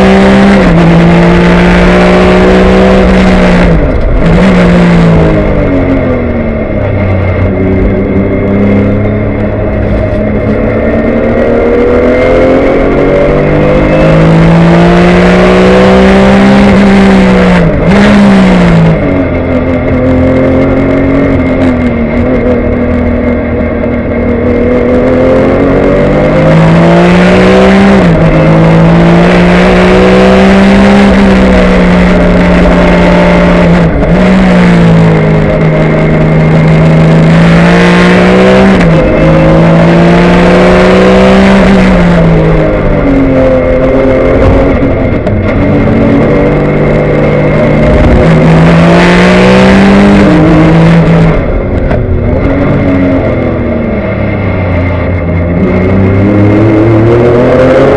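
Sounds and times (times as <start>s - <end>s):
racing car engine revving: 0.0s - 57.9s
road noise: 0.0s - 57.9s.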